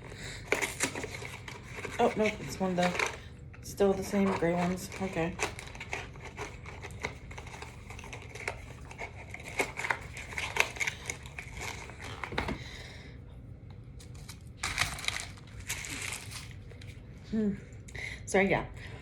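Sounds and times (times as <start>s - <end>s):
packaging crinkling: 0.0s - 12.8s, 14.0s - 17.0s.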